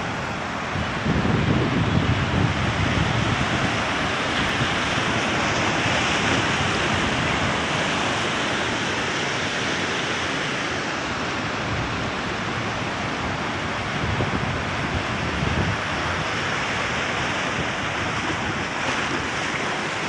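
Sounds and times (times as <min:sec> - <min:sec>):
wind on microphone: 0:00.0 - 0:09.5, 0:11.2 - 0:20.0
surf breaking over rocks: 0:00.0 - 0:20.0.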